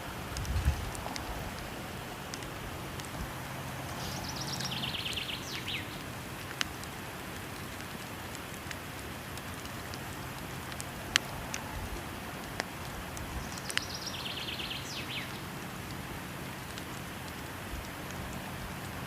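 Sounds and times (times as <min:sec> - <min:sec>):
falling water rushing: 0:00.0 - 0:19.0
wood fire crackling and popping: 0:00.0 - 0:19.0.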